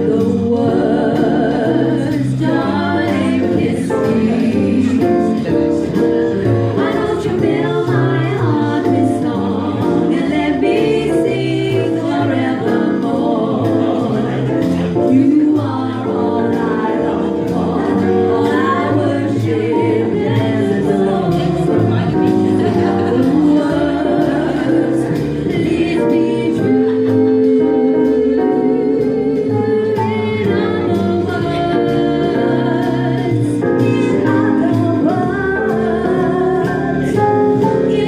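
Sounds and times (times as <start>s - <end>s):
person singing: 0.0s - 37.3s
held chords and bass line: 0.0s - 38.0s.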